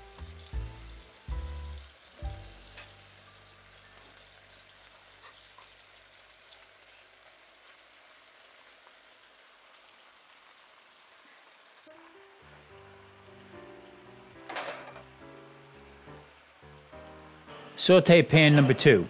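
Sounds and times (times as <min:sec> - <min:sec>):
chicken sizzling in a pan: 0:00.0 - 0:19.0.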